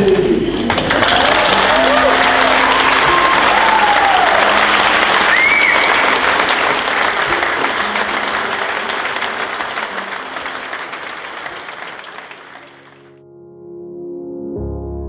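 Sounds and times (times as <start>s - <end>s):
crowd applauding: 0.0s - 13.1s.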